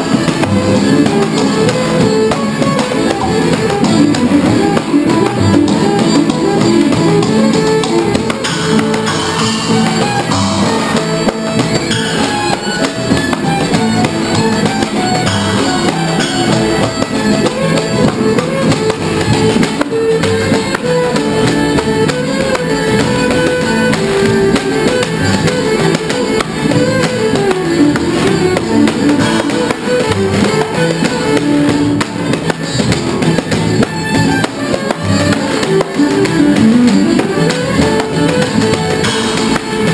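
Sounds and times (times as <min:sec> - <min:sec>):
banjo: 0:00.0 - 0:39.9
bass: 0:00.0 - 0:39.9
cymbals: 0:00.0 - 0:39.9
fiddle: 0:00.0 - 0:39.9.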